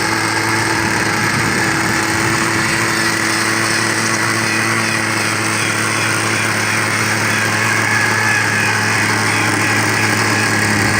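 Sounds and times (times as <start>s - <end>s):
low hum: 0.0s - 10.9s
model helicopter engine buzzing: 0.0s - 10.9s.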